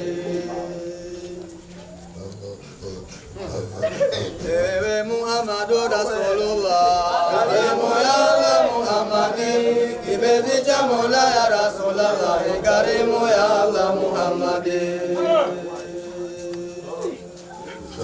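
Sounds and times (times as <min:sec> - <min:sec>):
man chanting devotional song: 0:00.0 - 0:18.0.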